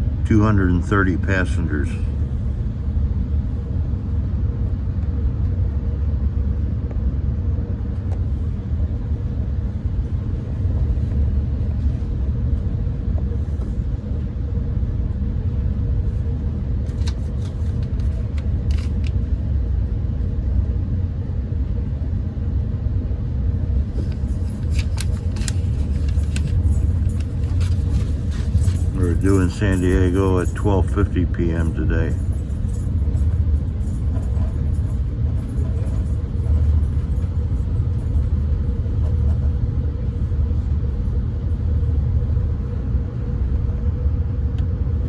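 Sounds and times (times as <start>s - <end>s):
faint steady hum: 0.0s - 45.0s
train rumble from inside: 0.0s - 45.0s.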